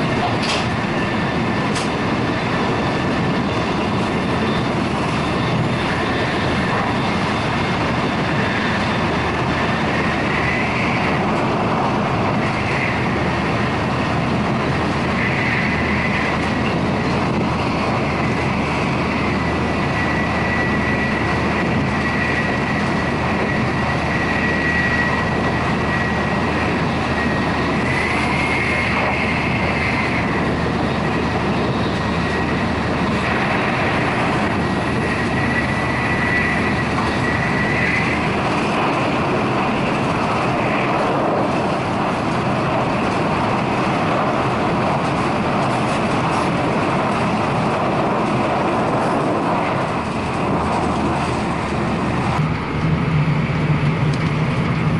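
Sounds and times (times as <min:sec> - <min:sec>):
high-speed train rumble: 0:00.0 - 0:54.9
train high whine: 0:00.0 - 0:54.9.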